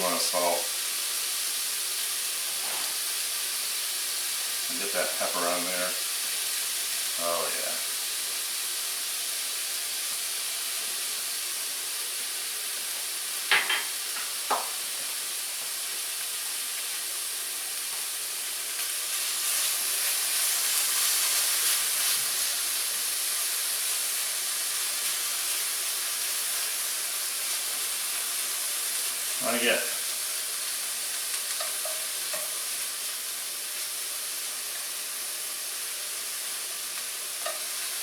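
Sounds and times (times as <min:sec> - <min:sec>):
steak sizzling in a pan: 0:00.0 - 0:38.0.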